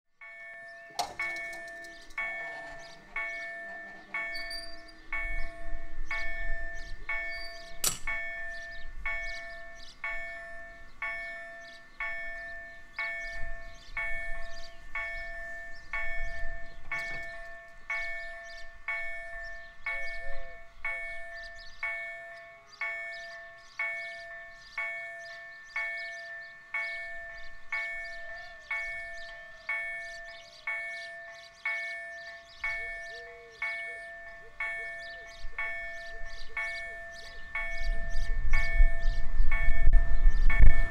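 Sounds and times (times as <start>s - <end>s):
level crossing warning bell: 0.1s - 40.9s.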